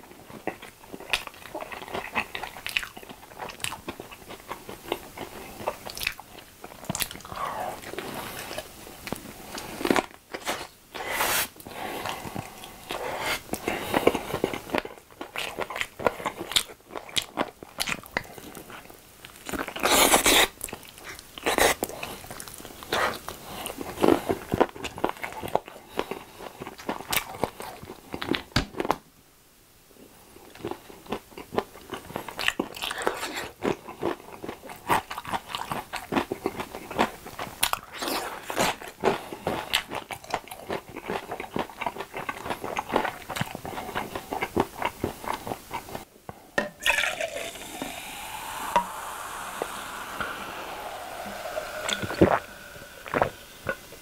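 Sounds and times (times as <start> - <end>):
chewing pickled radish: 0.0 - 11.2, 11.8 - 29.0, 30.4 - 46.1.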